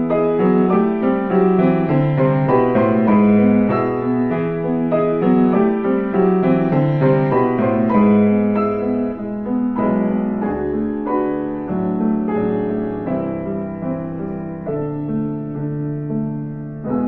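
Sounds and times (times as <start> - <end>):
piano chords and melody: 0.0 - 17.0.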